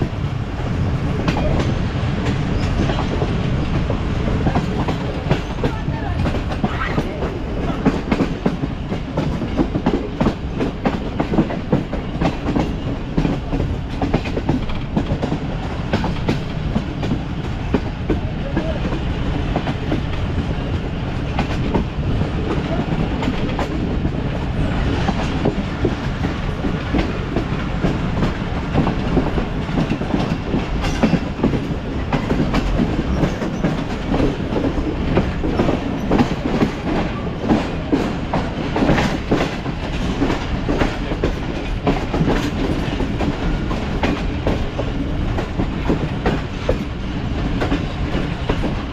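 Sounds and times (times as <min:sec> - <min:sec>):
train rumbling along track: 0:00.0 - 0:48.9
wheels clicking over rail joints: 0:01.2 - 0:48.9.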